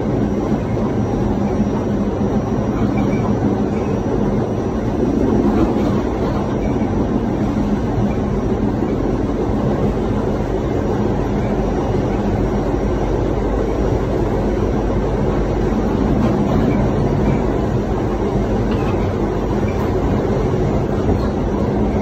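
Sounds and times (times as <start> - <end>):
subway car running on track: 0.0 - 22.0.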